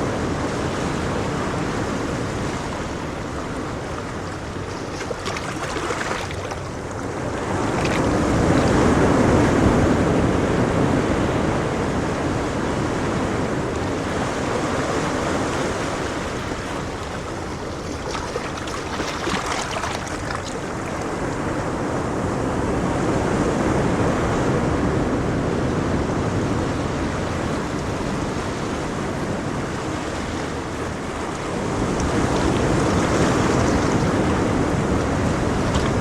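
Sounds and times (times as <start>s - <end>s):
ocean waves washing on shore: 0.0s - 36.0s.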